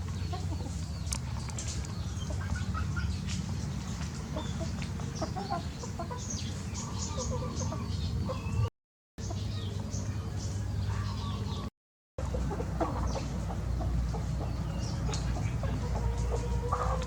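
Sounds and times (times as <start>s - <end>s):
chickens clucking: 0.0s - 17.0s
small birds chirping: 0.0s - 17.0s.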